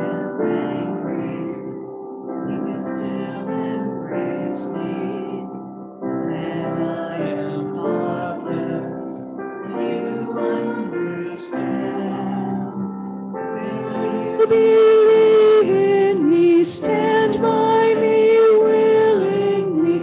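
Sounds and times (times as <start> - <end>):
piano accompaniment: 0.0 - 20.0
voices singing a slow hymn: 0.0 - 20.0.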